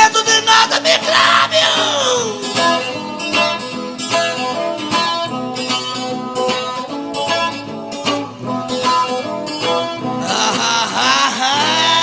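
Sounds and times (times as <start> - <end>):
guitar-led song music: 0.0 - 12.0.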